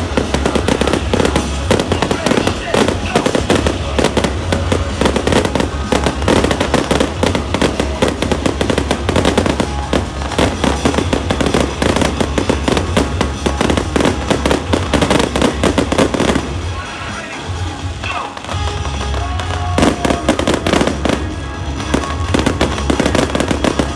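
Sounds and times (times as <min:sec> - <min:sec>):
fireworks bursting: 0:00.0 - 0:23.9.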